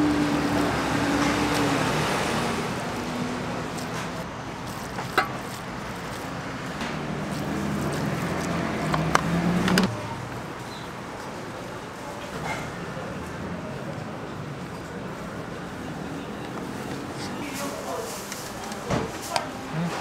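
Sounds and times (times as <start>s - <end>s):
crowd hubbub: 0.0s - 20.0s.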